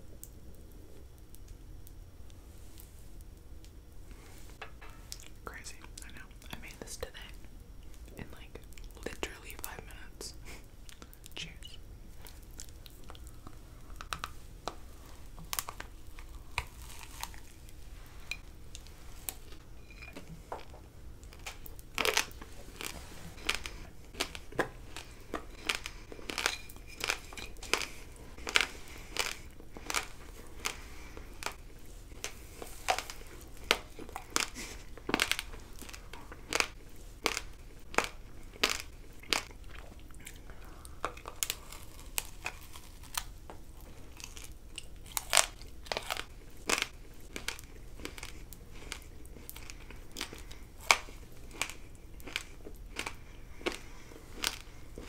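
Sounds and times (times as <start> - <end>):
crisp crunching and chewing: 5.1 - 55.0.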